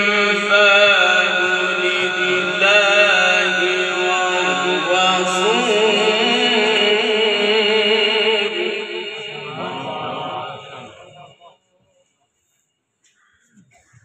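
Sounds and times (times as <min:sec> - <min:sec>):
man chanting recitation: 0:00.0 - 0:11.5.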